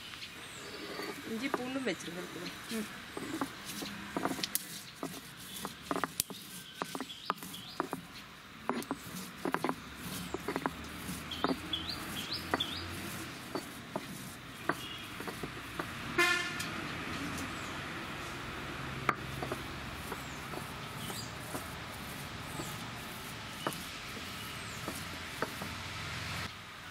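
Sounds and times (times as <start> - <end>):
small birds chirping: 0.0 - 16.1, 16.9 - 26.5
stone roller crushing seeds: 0.6 - 16.4, 18.0 - 26.5.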